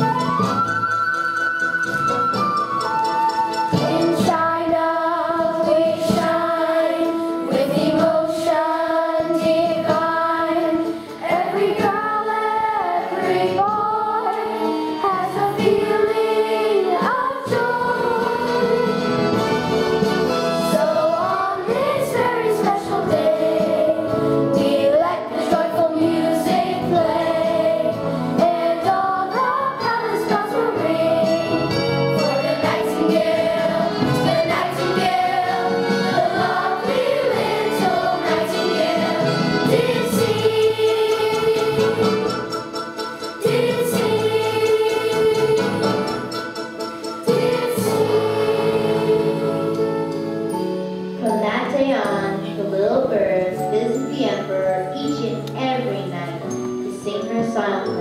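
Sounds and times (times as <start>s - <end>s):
accompanying music: 0.0s - 58.0s
children's choir singing: 3.7s - 50.6s.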